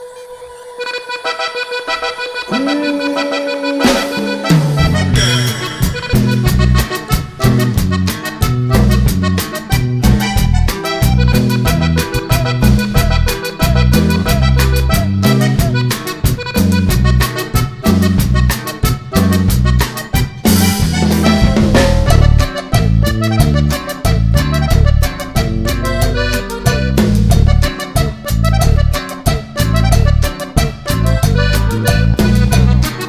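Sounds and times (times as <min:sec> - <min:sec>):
upbeat instrumental music: 0:01.4 - 0:33.0.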